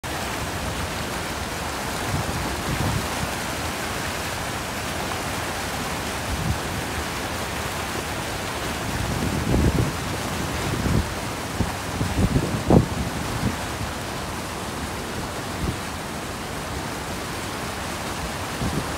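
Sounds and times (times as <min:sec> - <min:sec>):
rain: 0:00.0 - 0:18.9
river rushing: 0:00.0 - 0:18.9.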